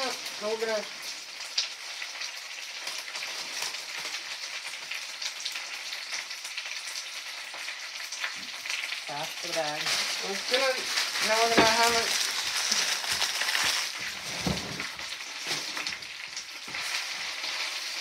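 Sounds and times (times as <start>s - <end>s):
spinach sizzling in a pan: 0.0s - 18.0s.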